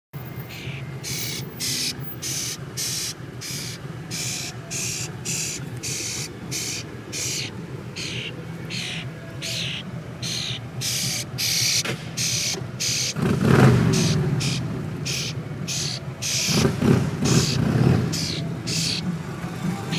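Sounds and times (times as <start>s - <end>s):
small bird begging calls: 0.2s - 13.2s, 13.8s - 19.1s.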